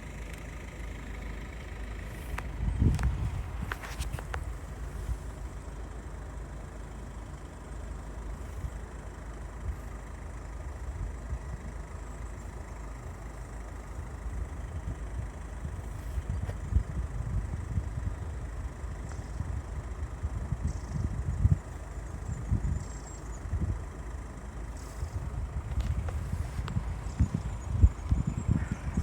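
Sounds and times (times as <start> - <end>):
vehicle engines idling: 0.0 - 29.0.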